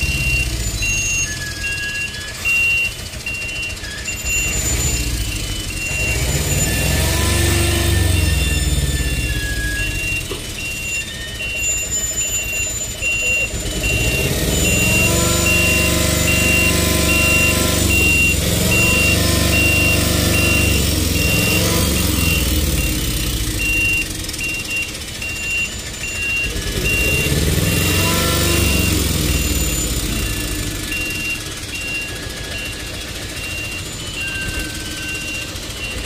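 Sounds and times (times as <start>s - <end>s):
heavy truck engine: 0.0s - 36.0s
reversing alarm beeping: 0.0s - 36.0s.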